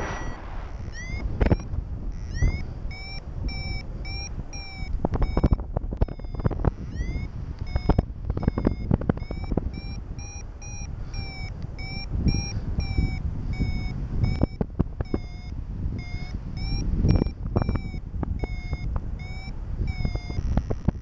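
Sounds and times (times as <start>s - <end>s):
variometer short beeps: 0.0s - 21.0s
wind buffeting microphone: 0.0s - 21.0s.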